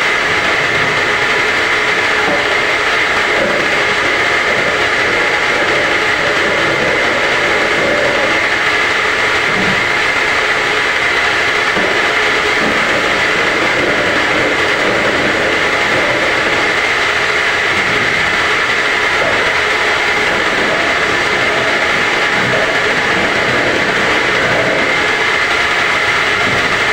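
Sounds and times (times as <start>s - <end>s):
washing machine whirring: 0.0s - 26.9s.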